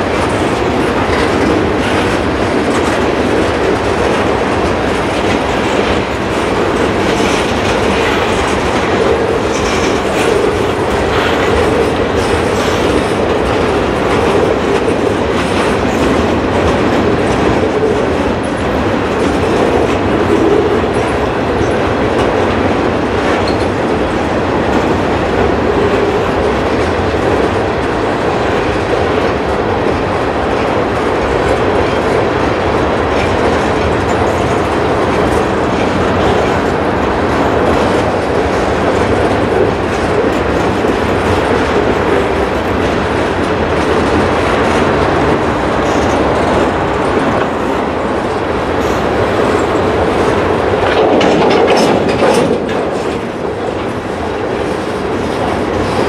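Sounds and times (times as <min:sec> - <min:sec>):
steel wheels rolling on rails: 0:00.0 - 0:56.0.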